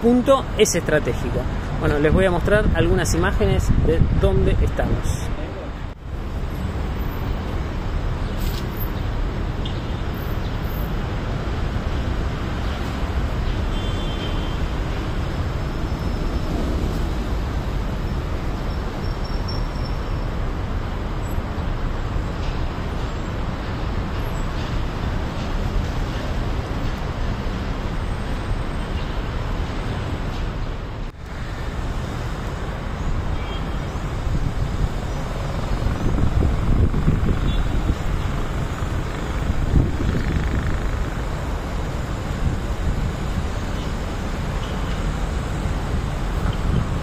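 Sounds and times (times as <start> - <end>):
city traffic rumble: 0.0 - 47.0.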